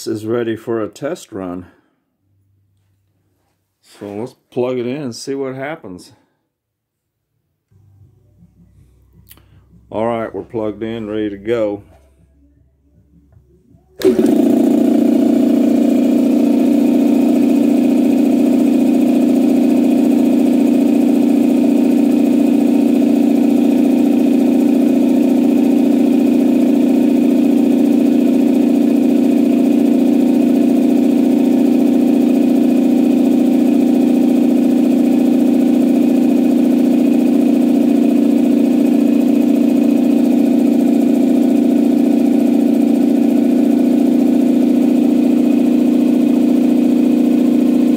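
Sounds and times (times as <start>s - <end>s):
air compressor running: 7.7s - 47.9s.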